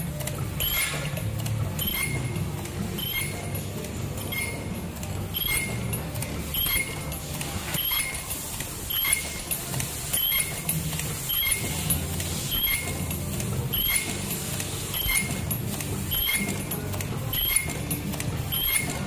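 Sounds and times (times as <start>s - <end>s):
machine squeak and click: 0.0s - 19.0s.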